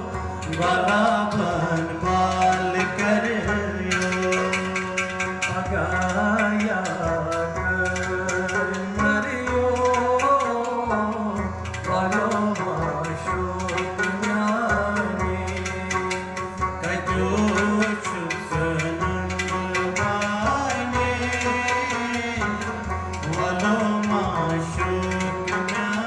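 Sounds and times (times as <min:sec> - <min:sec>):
hand percussion: 0:00.0 - 0:26.0
harmonium: 0:00.0 - 0:26.0
man singing: 0:00.0 - 0:26.0
plucked lute: 0:00.0 - 0:26.0.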